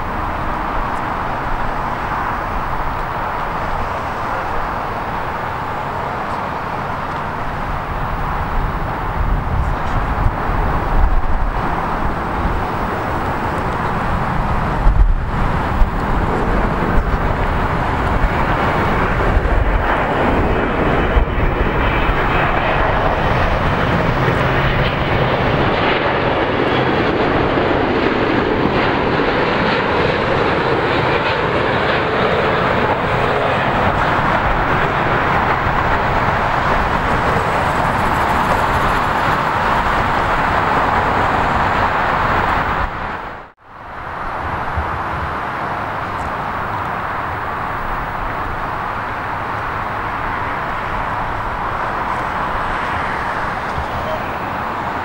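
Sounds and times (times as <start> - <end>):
wind bumps on microphone: 0.0 - 27.9, 32.4 - 55.0
jet airliner passing overhead: 0.0 - 55.0.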